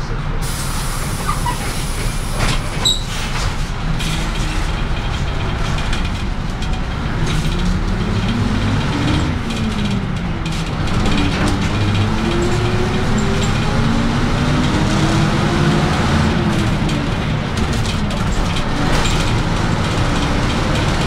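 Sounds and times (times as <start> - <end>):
bus diesel engine: 0.0 - 21.0.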